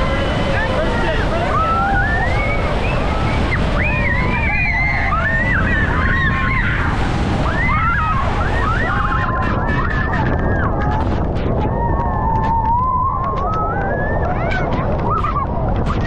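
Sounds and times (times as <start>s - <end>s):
roar of falling water: 0.0s - 16.0s
wind buffeting microphone: 0.0s - 16.0s.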